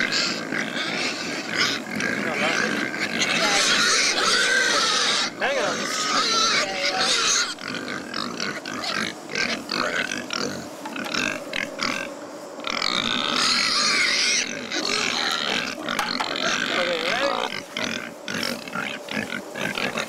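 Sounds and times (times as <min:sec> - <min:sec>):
pigs grunting: 0:00.0 - 0:20.0.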